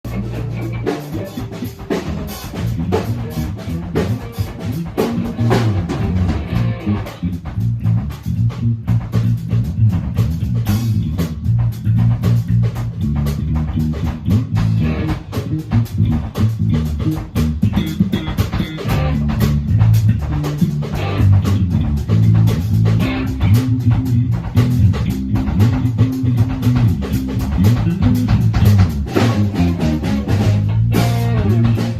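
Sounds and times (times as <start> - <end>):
drum beat: 0.0 - 31.9
electric bass funk groove: 0.0 - 31.9.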